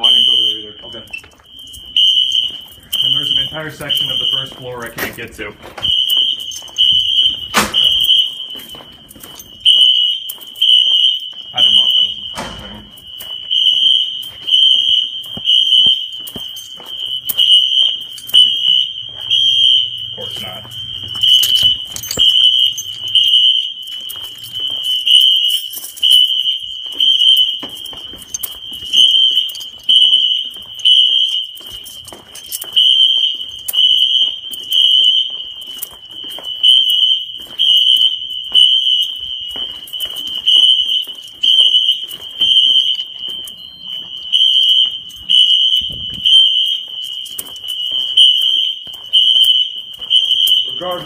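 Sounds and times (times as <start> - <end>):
fire alarm horn pulsing: 0.0 - 51.0
footsteps on hard floor: 1.2 - 50.7.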